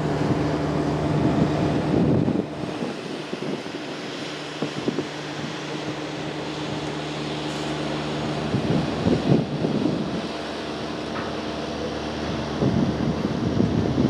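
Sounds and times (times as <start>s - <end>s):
locomotive engine drone: 0.0s - 14.0s
wind buffeting microphone: 0.0s - 14.0s.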